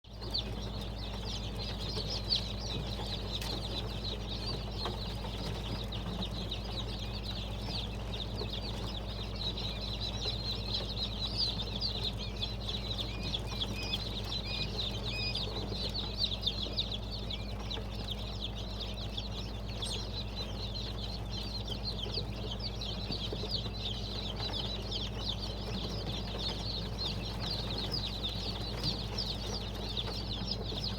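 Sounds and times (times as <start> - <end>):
low electrical hum: 0.1 - 30.9
quail peeping and chirping: 0.1 - 30.9.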